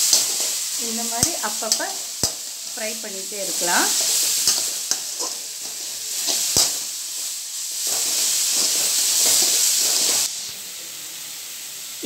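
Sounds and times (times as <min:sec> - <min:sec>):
spatula stirring and scraping: 0:00.0 - 0:10.3
onions sizzling in hot oil: 0:00.0 - 0:12.0.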